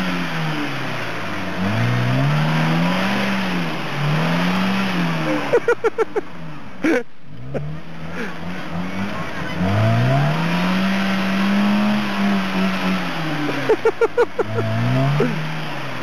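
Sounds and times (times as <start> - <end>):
engine revving hard: 0.0 - 5.8, 7.3 - 16.0.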